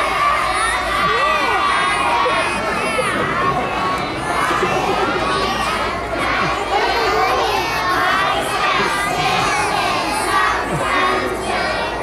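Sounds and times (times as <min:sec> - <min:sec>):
audience noise: 0:00.0 - 0:12.0
children's voices in unison: 0:00.0 - 0:12.0.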